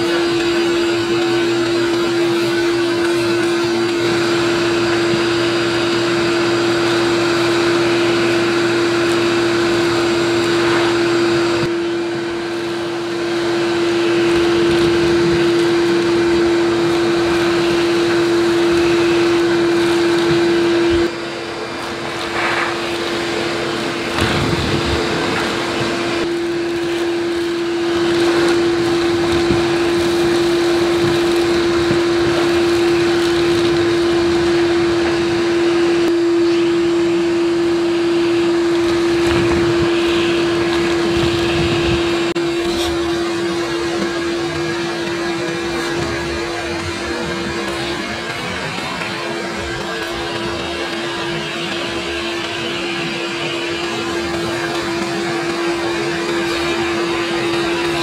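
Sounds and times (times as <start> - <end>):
shop vacuum running: 0.0 - 58.0.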